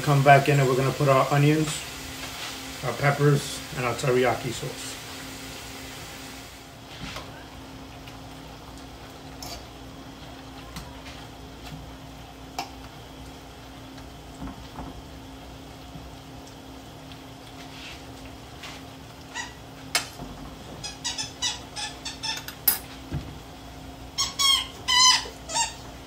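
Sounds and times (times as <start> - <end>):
chicken frying in oil: 0.0 - 22.7.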